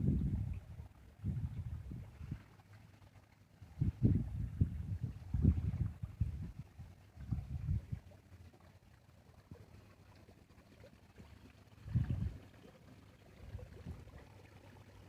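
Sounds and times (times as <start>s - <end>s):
garden fountain splashing: 0.0s - 15.0s.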